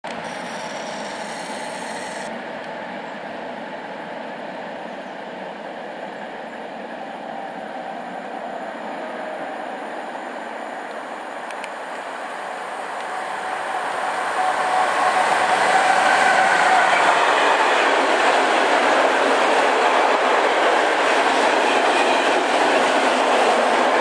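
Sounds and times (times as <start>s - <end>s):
freight train wheels rumbling on rails: 0.1s - 24.0s.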